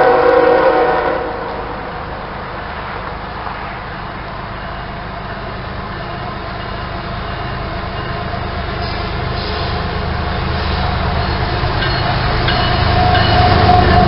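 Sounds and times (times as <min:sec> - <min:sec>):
rail noise: 0:00.0 - 0:14.0
train rumbling by: 0:00.0 - 0:14.0.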